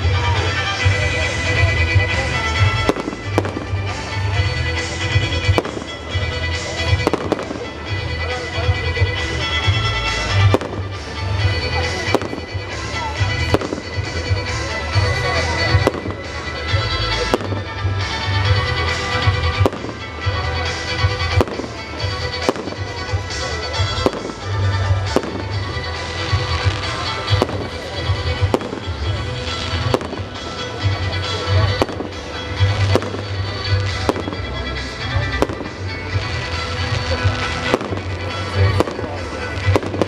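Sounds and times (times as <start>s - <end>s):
fireworks bursting with bangs: 0.0s - 40.0s
loud music with heavy bass: 0.0s - 40.0s.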